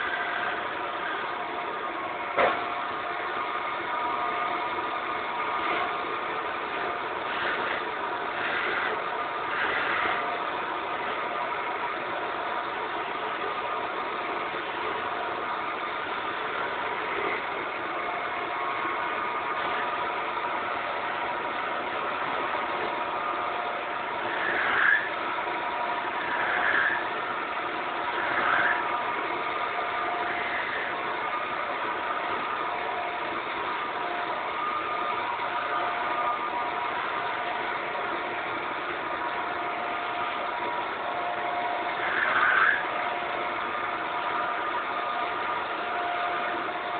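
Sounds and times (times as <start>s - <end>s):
wood lathe motor humming: 0.0s - 46.9s.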